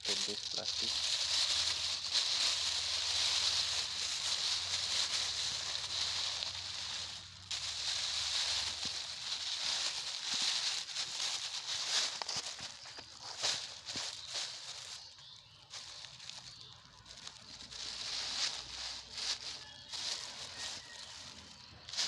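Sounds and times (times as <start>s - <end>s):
plastic bag rustling and crinkling: 0.0s - 22.0s.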